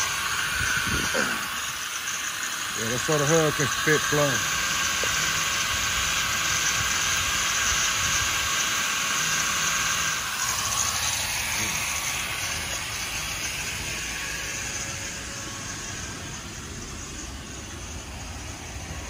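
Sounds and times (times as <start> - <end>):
angle grinder cutting steel: 0.0 - 16.4.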